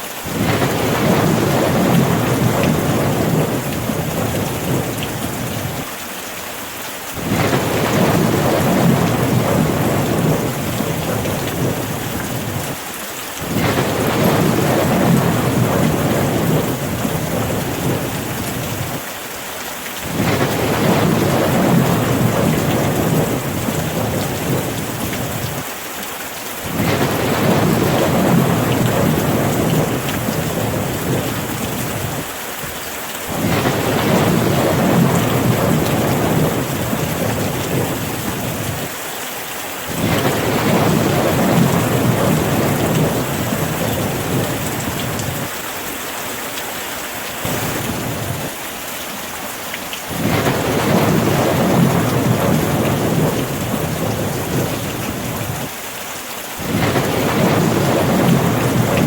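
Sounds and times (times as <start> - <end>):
steady rain: 0.0 - 59.0
rolling thunder: 0.3 - 5.9, 7.2 - 12.8, 13.4 - 19.0, 20.0 - 25.6, 26.7 - 32.3, 33.3 - 38.9, 39.9 - 45.5, 47.4 - 48.6, 50.1 - 55.7, 56.6 - 59.0.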